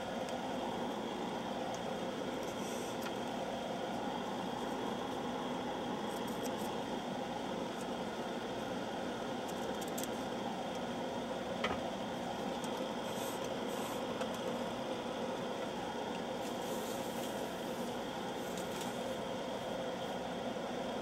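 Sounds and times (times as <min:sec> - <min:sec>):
teletype machine humming: 0:00.0 - 0:21.0.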